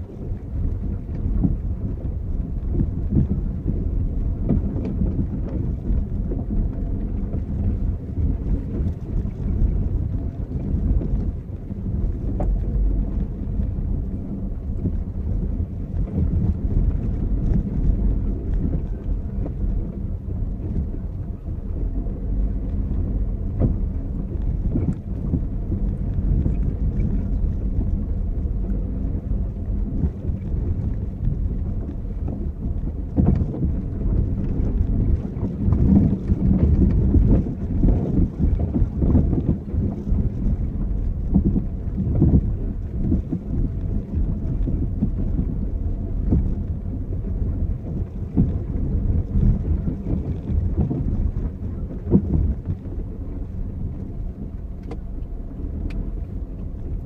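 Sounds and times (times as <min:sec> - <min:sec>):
car driving on rough dirt road: 0:00.0 - 0:57.0.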